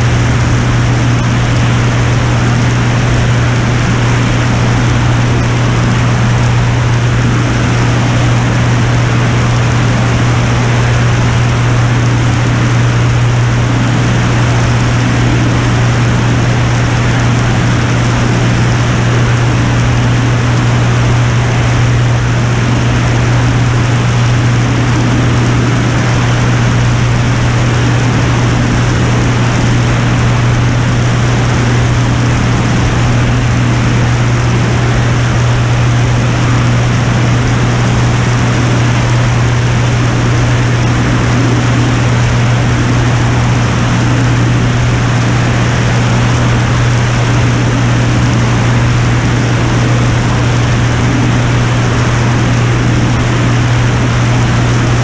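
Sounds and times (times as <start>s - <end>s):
propeller engine droning: 0.0s - 55.0s.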